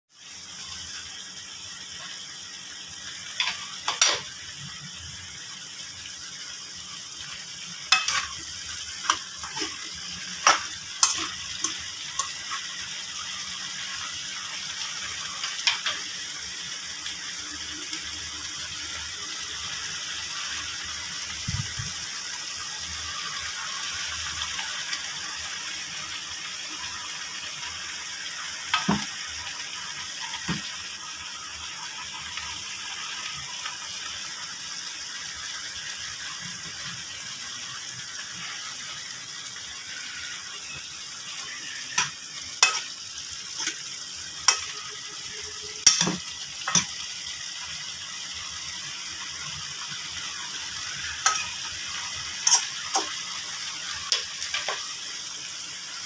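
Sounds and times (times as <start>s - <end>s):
food sizzling in a wok: 0.1s - 56.0s.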